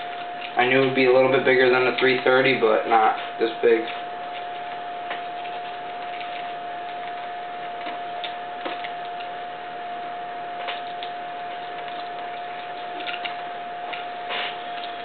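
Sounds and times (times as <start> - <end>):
high hum: 0.0 - 15.0.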